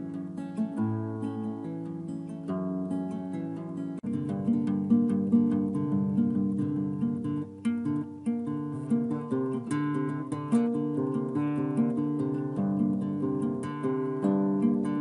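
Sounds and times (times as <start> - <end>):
acoustic guitar plucking: 0.0 - 15.0.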